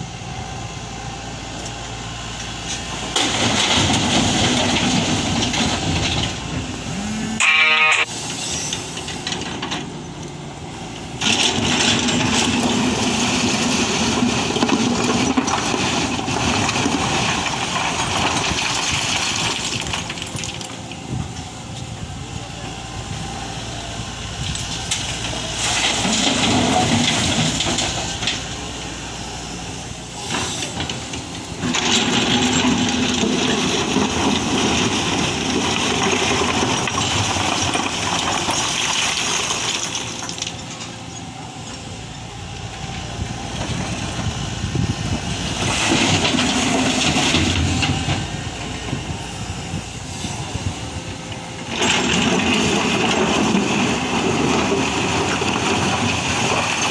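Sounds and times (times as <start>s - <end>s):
excavator diesel engine under load: 0.0s - 56.9s.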